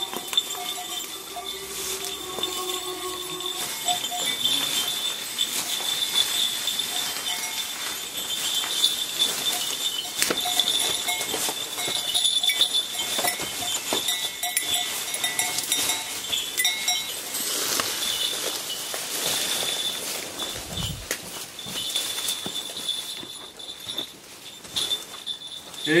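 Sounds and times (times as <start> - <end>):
goat bells clanking and ringing: 0.0 - 26.0.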